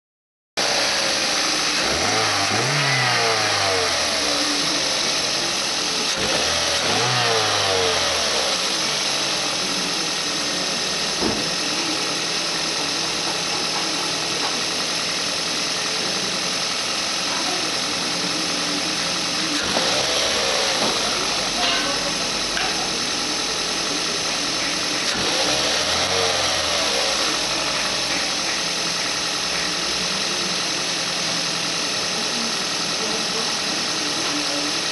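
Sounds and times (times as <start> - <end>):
car engine revving and idling: 0.6 - 34.9.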